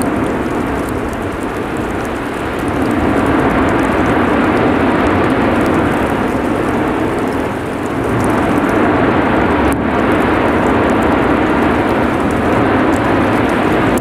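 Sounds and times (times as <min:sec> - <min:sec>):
deep rumble: 0:00.0 - 0:14.0
lava fountain roaring: 0:00.0 - 0:14.0.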